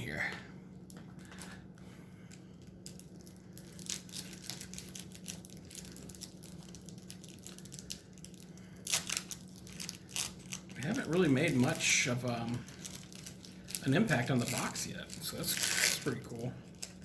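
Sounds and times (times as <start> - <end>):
cards rustling and crinkling: 0.9 - 1.7, 2.3 - 17.0.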